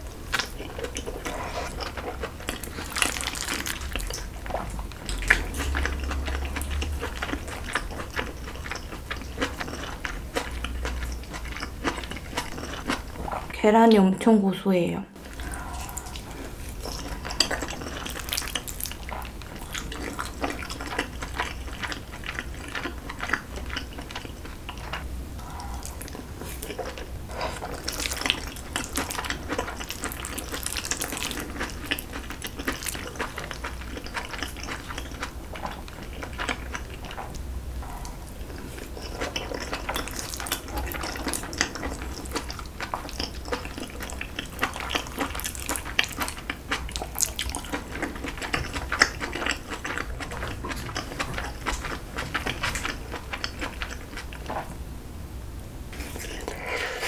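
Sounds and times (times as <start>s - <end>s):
wet chewing and slurping: 0.0s - 13.5s, 15.2s - 54.7s, 55.9s - 57.0s.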